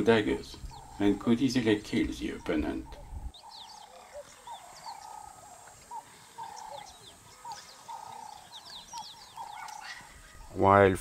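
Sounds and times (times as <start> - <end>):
birds chirping high: 0.0 - 11.0.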